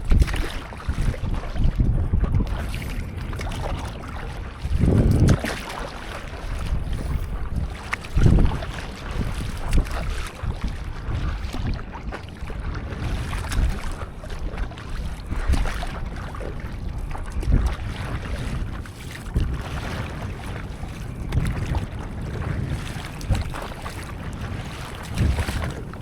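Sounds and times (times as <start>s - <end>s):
water splashing and lapping: 0.0s - 26.0s
wind rumbling on microphone: 0.0s - 26.0s.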